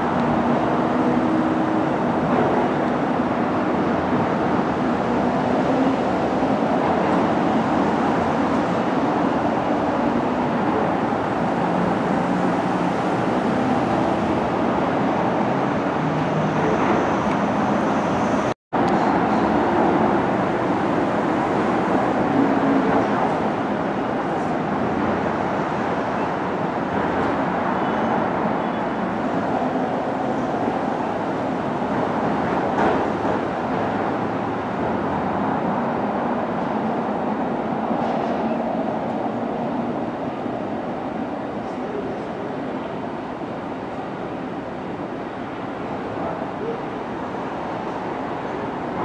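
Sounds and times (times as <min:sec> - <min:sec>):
distant subway train: 0:00.0 - 0:49.0
street traffic: 0:00.0 - 0:49.0.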